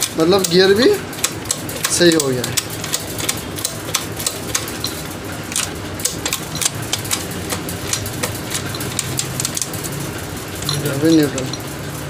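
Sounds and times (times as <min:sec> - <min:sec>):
metallic gearbox clicks: 0:00.0 - 0:10.0, 0:10.6 - 0:11.9
steady low hum: 0:00.0 - 0:12.0.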